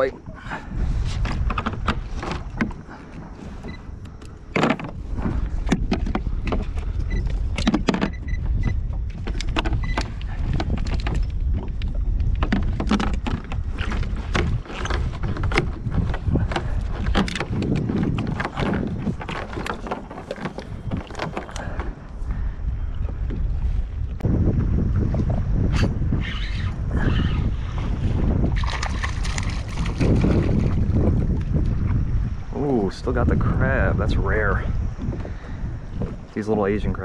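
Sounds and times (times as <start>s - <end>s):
water splashing against kayak hull: 0.0s - 26.0s, 27.0s - 37.0s
wind rumbling on microphone: 0.0s - 37.0s.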